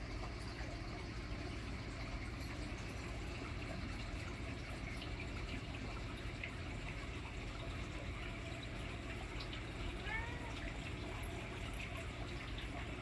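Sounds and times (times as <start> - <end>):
running and trickling water: 0.0 - 13.0.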